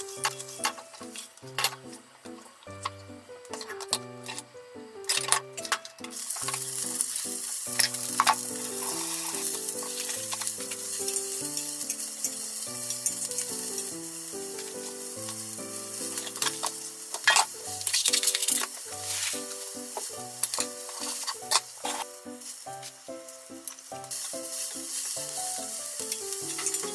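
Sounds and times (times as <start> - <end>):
peppers sizzling in a pan: 0.0 - 26.9.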